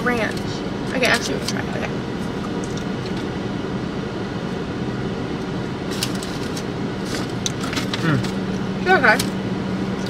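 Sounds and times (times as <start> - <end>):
car cabin drone: 0.0 - 10.0.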